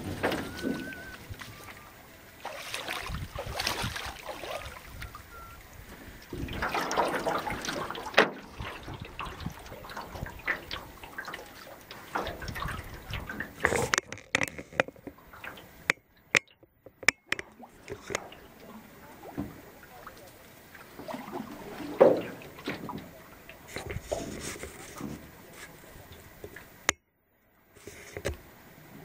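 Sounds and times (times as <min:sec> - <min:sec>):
water splashing from wading: 0:00.0 - 0:26.9
water drips against canoe hull: 0:00.0 - 0:27.0.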